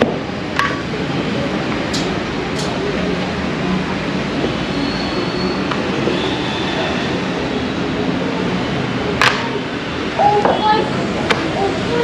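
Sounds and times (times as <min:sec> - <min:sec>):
rumbling background din: 0:00.0 - 0:12.0.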